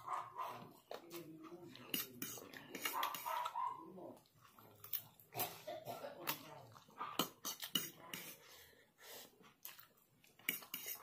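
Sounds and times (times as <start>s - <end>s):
noodles slurped and chewed: 0.0s - 11.0s.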